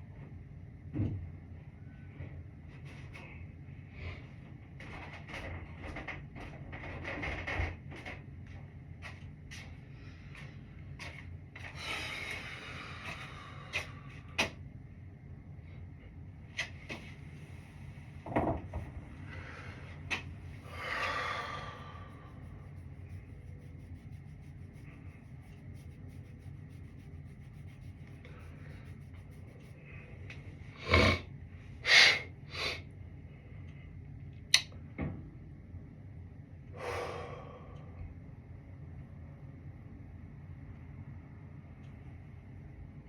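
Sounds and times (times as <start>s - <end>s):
faint steady hum: 7.9s - 43.0s.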